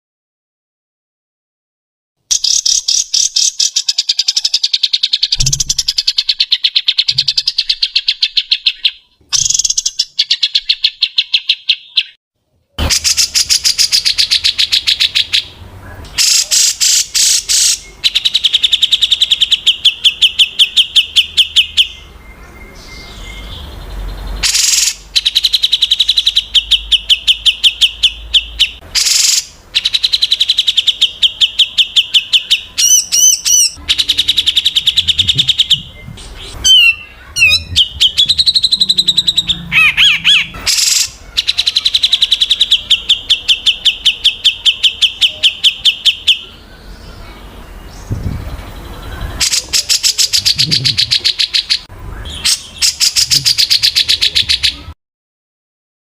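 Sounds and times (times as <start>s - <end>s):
bird singing fast trills: 2.3s - 12.2s, 12.8s - 54.9s.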